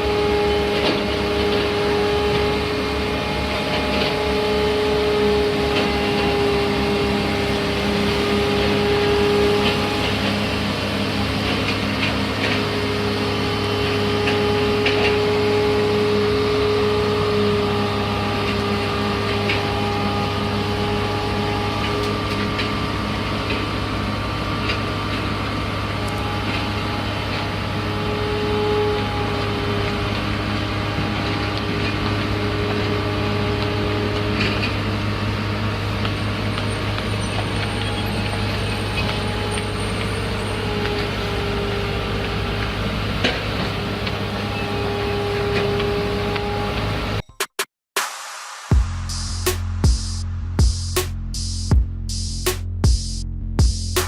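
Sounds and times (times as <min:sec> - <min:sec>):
construction machine engine running: 0:00.0 - 0:47.2.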